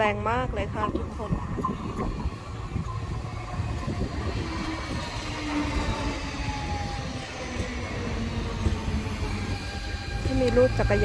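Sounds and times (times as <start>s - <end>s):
electric train rumbling past: 0.0s - 11.0s
faint train whine: 0.0s - 11.0s
wind buffeting microphone: 0.0s - 11.0s.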